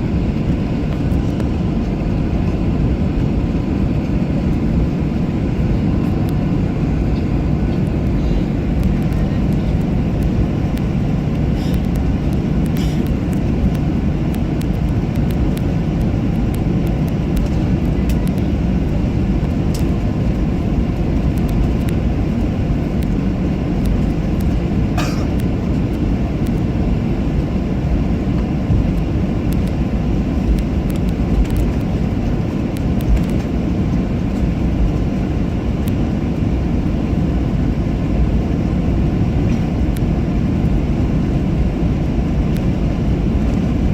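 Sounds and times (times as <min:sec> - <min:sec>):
airliner cabin engine rumble: 0:00.0 - 0:43.9.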